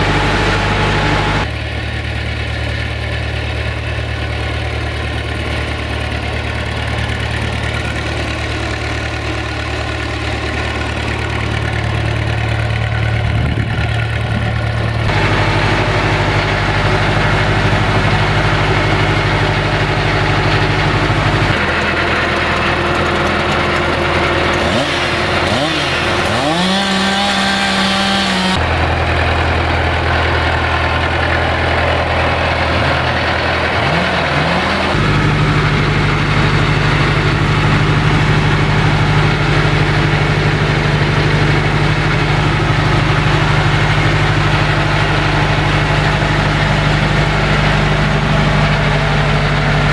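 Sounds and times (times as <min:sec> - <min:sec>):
tractor diesel engine idling: 0:00.0 - 0:49.9.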